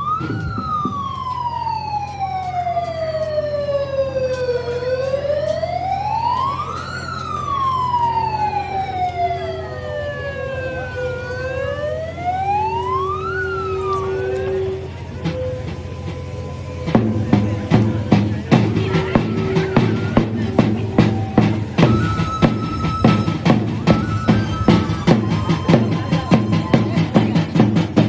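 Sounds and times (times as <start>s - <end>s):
wailing siren over loudspeakers: 0.0s - 28.0s.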